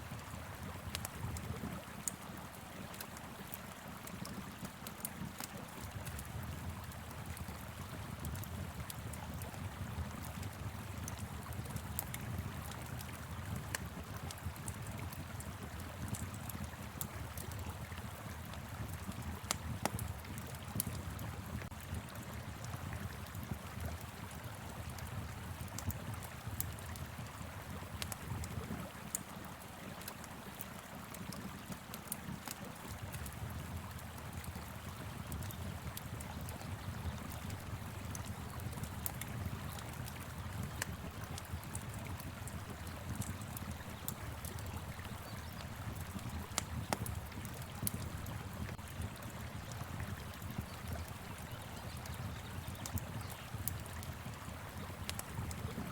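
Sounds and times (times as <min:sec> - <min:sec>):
fire crackling and popping: 0:00.1 - 0:55.9.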